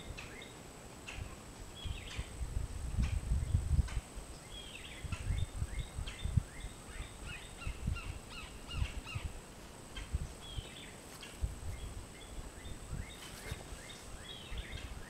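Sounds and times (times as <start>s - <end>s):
birds chirping and calling: 0.0s - 2.4s, 3.0s - 15.0s.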